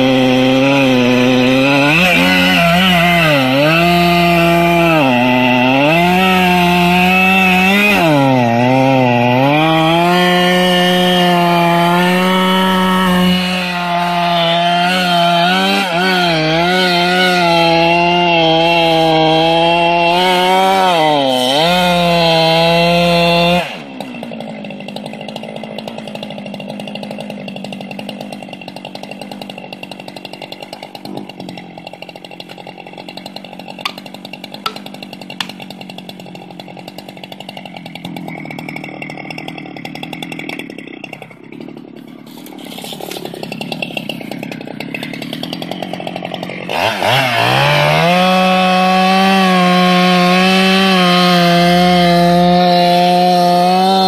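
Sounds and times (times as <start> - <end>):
chainsaw cutting tree: 0.0 - 54.0.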